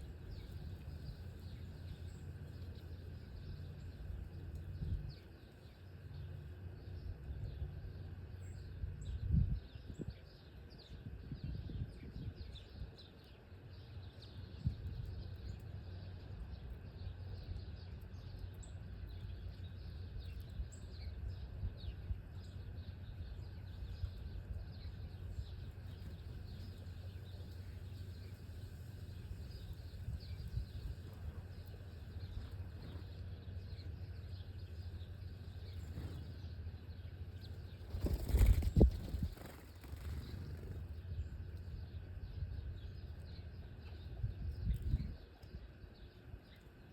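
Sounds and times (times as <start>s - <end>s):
low outdoor rumble: 0.0s - 46.9s
small birds chirping: 0.0s - 46.9s.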